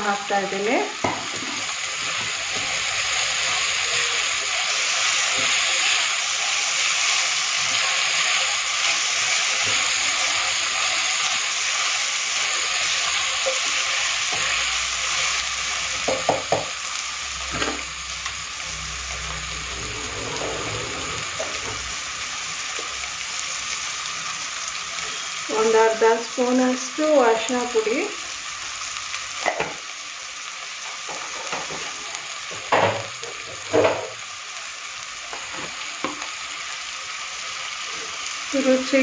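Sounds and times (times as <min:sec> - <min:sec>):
food sizzling in a pan: 0:00.0 - 0:39.0.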